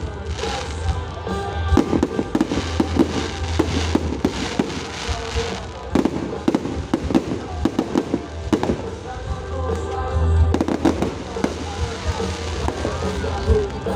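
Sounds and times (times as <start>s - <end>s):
fireworks bangs and crackles: 0.0s - 13.9s
music playing: 0.0s - 13.9s.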